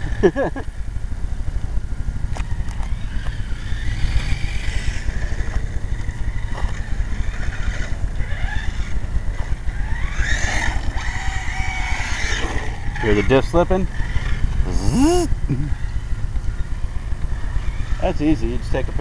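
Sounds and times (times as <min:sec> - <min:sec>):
electric rc car whining: 0:02.3 - 0:19.0.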